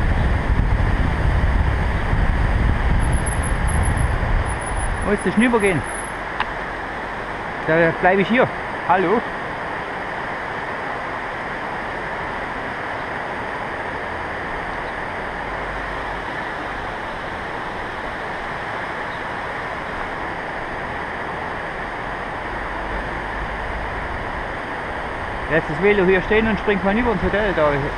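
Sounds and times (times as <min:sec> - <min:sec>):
steady rushing noise: 0:00.0 - 0:27.9.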